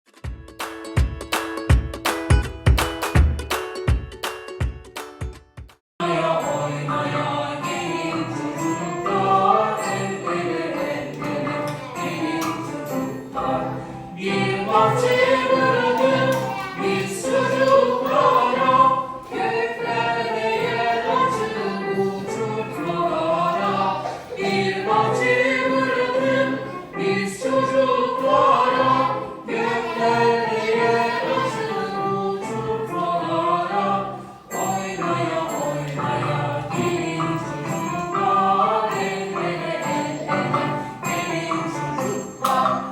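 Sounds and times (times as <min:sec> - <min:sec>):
voices singing over instruments: 0:06.0 - 0:42.9.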